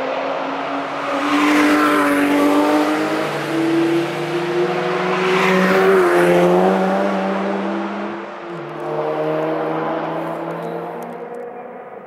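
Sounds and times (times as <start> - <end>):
sports cars passing: 0.0 - 12.0.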